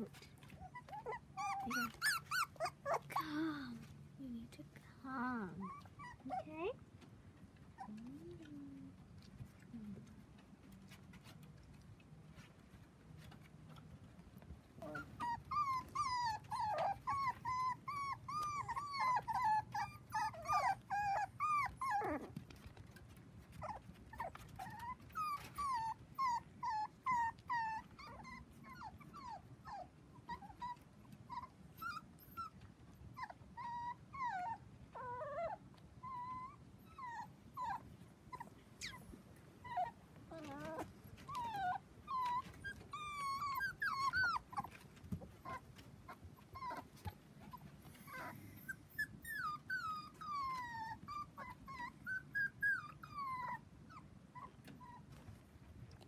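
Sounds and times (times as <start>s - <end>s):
puppies whining: 0.0s - 4.2s, 5.6s - 6.5s, 14.4s - 55.4s.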